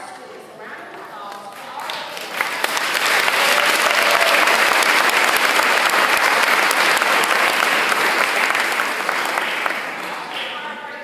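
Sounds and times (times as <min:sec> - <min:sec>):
audience applauding: 0:01.6 - 0:10.7.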